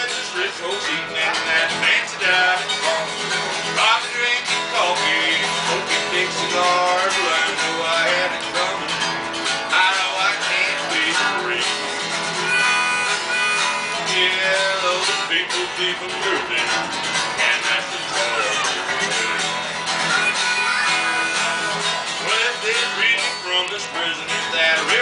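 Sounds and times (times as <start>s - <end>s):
acoustic guitar country music: 0.0s - 25.0s.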